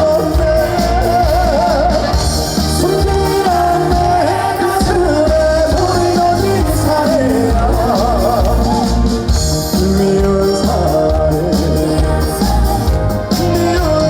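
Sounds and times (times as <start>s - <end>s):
band playing trot music: 0.0s - 14.0s
man singing: 0.0s - 14.0s.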